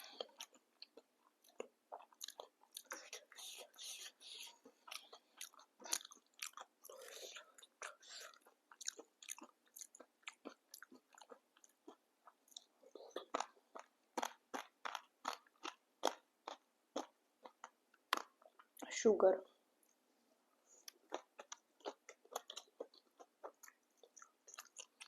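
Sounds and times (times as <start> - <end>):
crunchy chewing: 0.0 - 18.7, 20.8 - 25.0.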